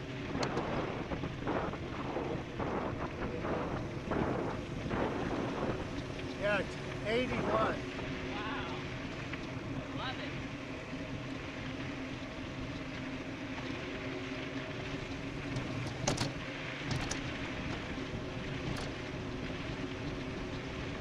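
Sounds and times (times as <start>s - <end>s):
tyres and rushing air hum: 0.0s - 21.0s.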